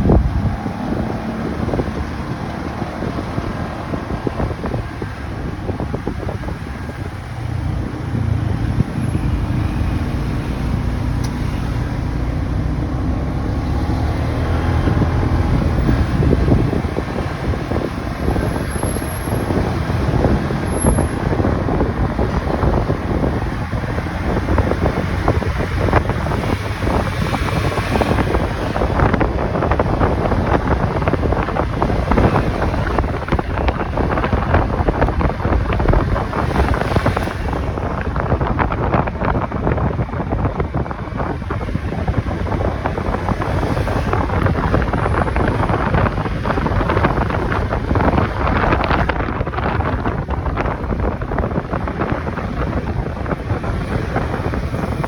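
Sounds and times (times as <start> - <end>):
road noise: 0.0 - 55.0
wind rushing over microphone: 0.0 - 55.0.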